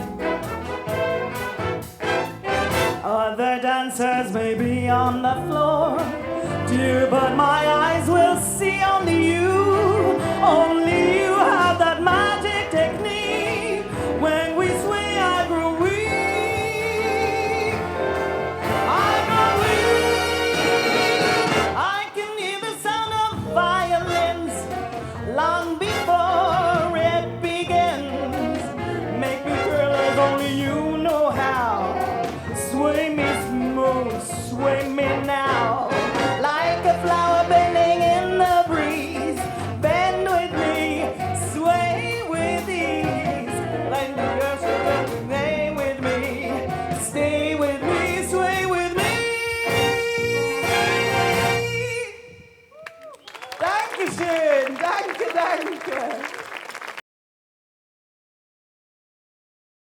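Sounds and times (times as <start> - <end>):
big band brass playing: 0.0 - 3.5, 4.6 - 52.3.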